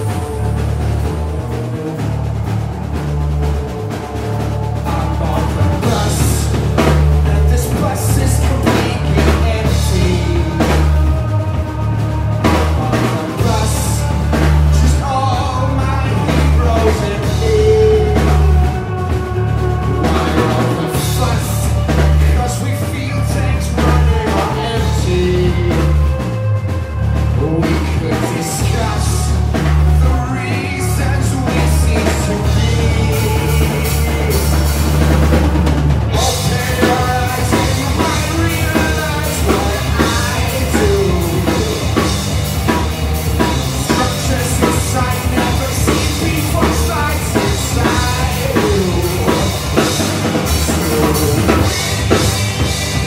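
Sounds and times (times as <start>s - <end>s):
bass guitar: 0.0s - 53.0s
drum kit: 0.0s - 53.0s
electric guitars: 0.0s - 53.0s.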